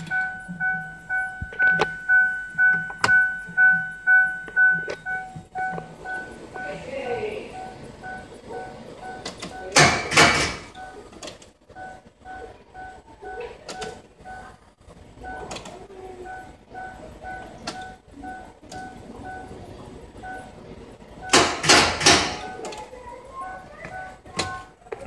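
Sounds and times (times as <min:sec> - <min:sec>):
dashboard warning chime beeping: 0:00.0 - 0:11.1, 0:11.7 - 0:24.8.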